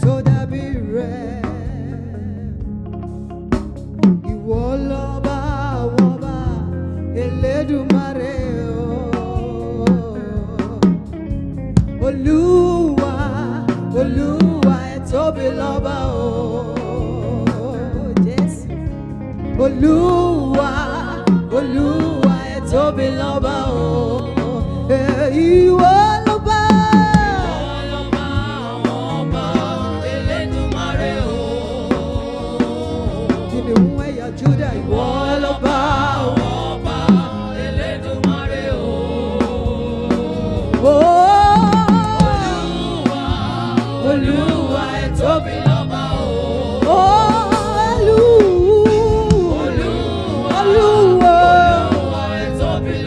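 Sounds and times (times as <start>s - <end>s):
steady bass: 0.0s - 53.0s.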